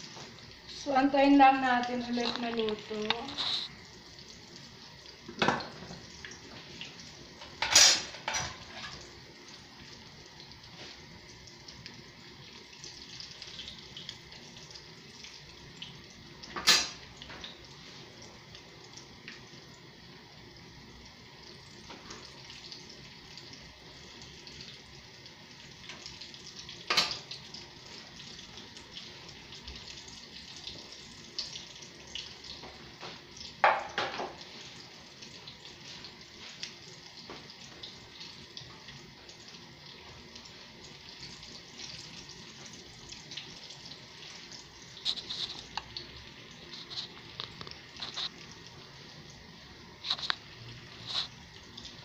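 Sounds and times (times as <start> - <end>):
fish sizzling in oil: 0.0 - 52.0.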